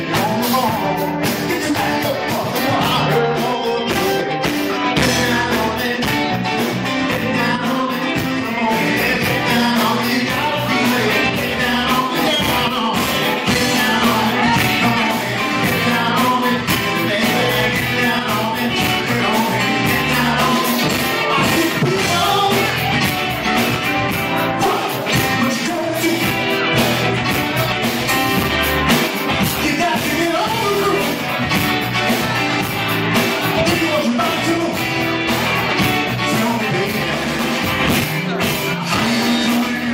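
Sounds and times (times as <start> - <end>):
man singing into a microphone: 0.0 - 28.2, 29.3 - 39.9
bass guitar: 0.0 - 39.9
drum beat: 0.0 - 39.9
electric guitar: 0.0 - 39.9
keyboards: 0.0 - 39.9.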